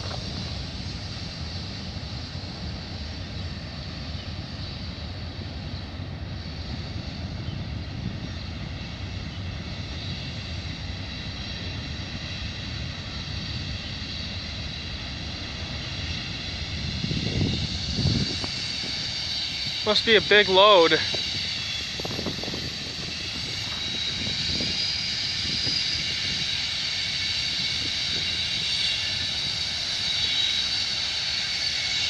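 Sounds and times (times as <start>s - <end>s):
distant freight train rolling: 0.0s - 32.0s
high hiss of train wheels: 0.0s - 32.0s.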